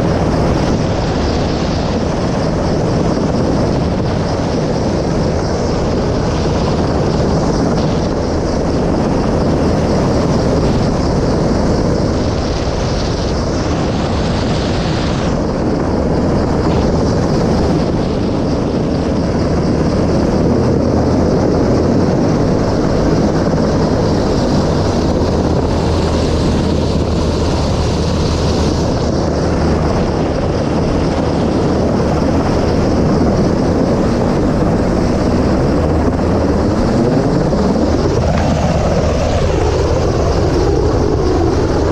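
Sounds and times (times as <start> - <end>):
helicopter running: 0.0 - 41.9.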